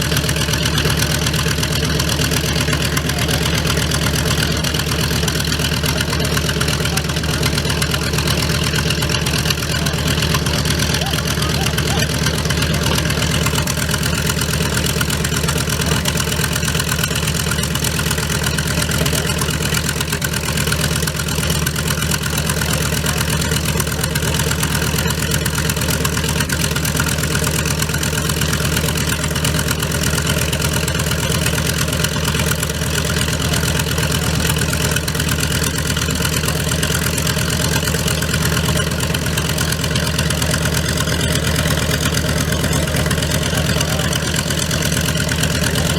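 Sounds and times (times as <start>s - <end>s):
piston engine idling: 0.0s - 45.9s.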